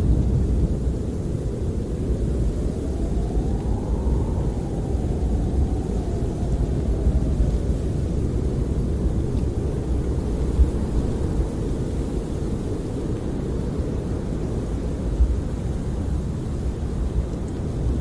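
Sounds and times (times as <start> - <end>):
faint wind whistle: 0.0 - 18.0
wind buffeting a camper: 0.0 - 18.0.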